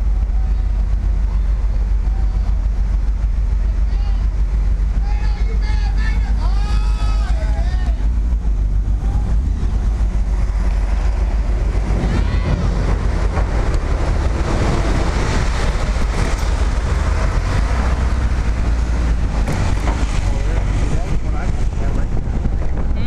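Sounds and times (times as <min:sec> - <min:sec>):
motorcycle engine rumble: 0:00.0 - 0:23.0
wind rush: 0:00.0 - 0:23.0.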